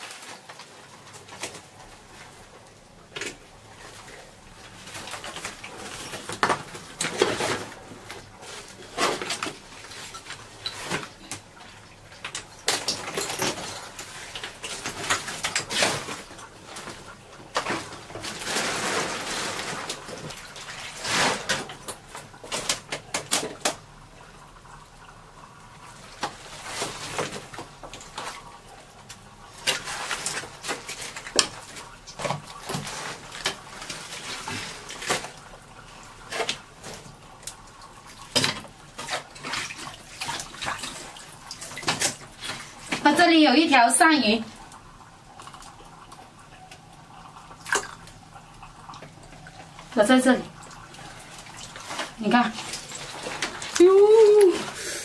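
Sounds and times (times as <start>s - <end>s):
small water splashes: 3.0s - 24.2s, 24.8s - 54.8s
wet sheeting rustling: 3.1s - 23.8s, 25.9s - 44.8s, 47.4s - 55.0s.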